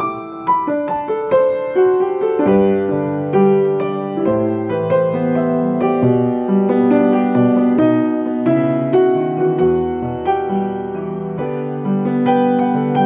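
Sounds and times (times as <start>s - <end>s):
solo grand piano ballad: 0.0s - 13.0s.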